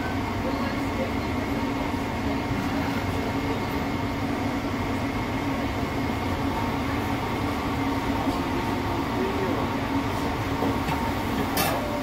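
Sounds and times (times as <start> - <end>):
exhaust fan drone: 0.0 - 12.0.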